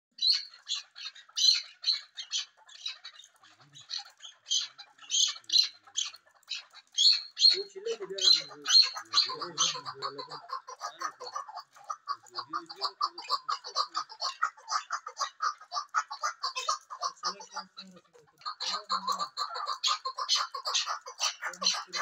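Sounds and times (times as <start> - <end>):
partridges calling: 0.1 - 22.0.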